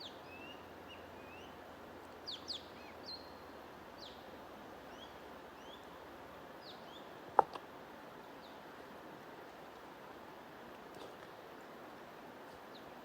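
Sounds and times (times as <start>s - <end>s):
white noise hiss: 0.0s - 13.0s.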